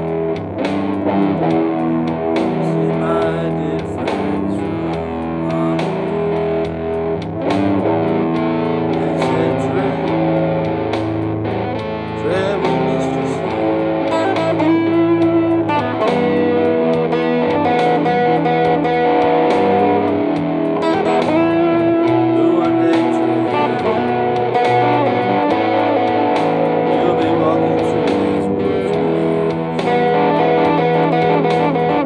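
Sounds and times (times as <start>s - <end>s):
electric guitar playing blues: 0.0s - 32.0s.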